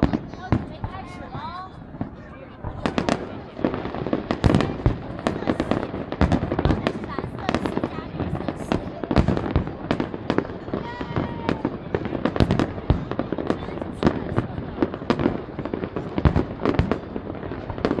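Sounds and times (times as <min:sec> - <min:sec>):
fireworks bursting with sharp bangs: 0:00.0 - 0:18.0
fireworks crackling: 0:00.0 - 0:18.0.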